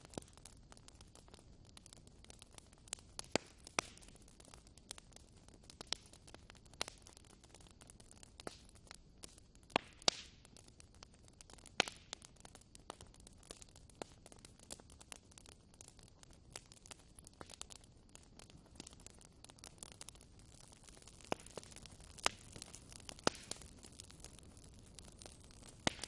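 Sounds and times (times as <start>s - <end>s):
soft hiss of fire: 0.0s - 26.0s
wood fire crackling and popping: 0.0s - 26.0s.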